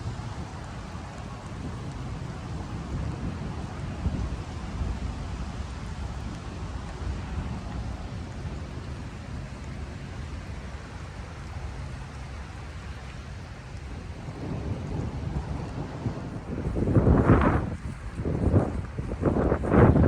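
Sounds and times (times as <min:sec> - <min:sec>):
rain: 0:00.0 - 0:20.0
wind buffeting microphone: 0:00.0 - 0:20.0.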